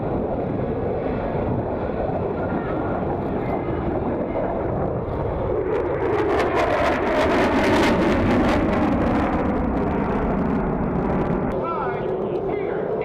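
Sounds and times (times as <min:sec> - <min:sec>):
jet passing overhead: 0:00.0 - 0:13.0.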